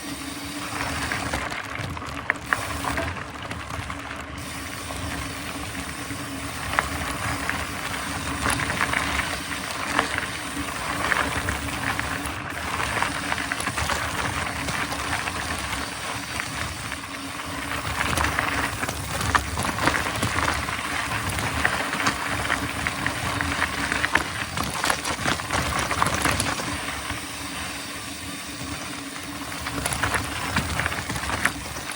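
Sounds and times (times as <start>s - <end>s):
bike tyres rushing on dirt trail: 0.0s - 31.9s
bike knocks and rattles: 0.6s - 31.9s.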